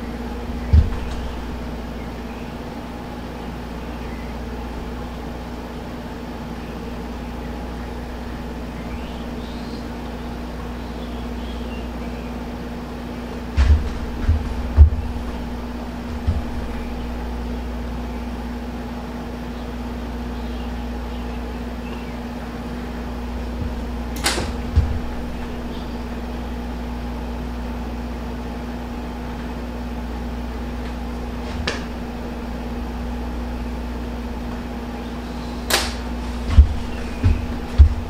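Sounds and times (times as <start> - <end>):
steady machine hum: 0.0 - 38.0.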